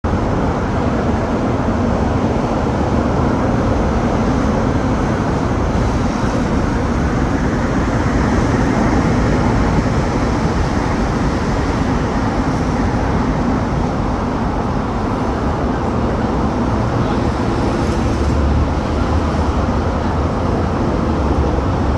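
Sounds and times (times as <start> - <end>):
passing vehicles rumbling: 0.1 - 21.9.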